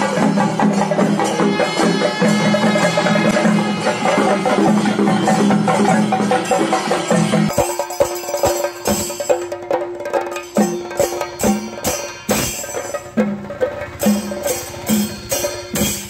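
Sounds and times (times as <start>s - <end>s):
traditional music: 0.0s - 16.0s.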